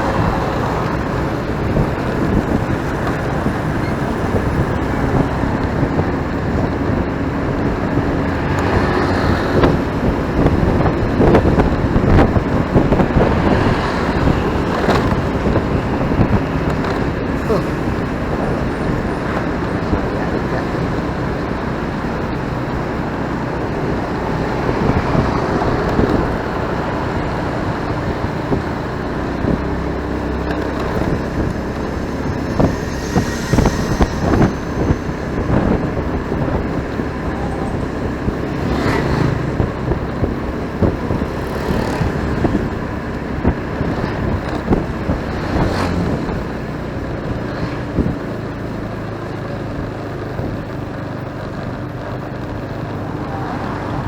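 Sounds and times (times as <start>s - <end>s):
motorcycle engine and road noise: 0.0s - 54.0s
other vehicles passing: 0.0s - 54.0s.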